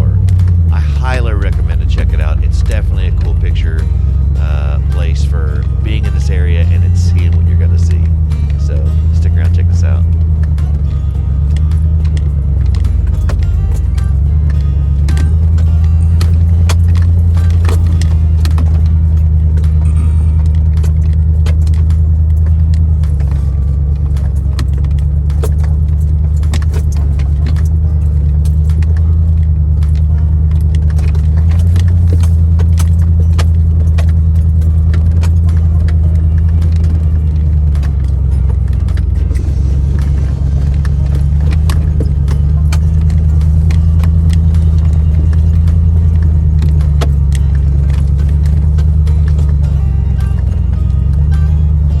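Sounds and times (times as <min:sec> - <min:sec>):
loose gear clinking and rattling: 0:00.0 - 0:52.0
vehicle engine and road drone: 0:00.0 - 0:52.0.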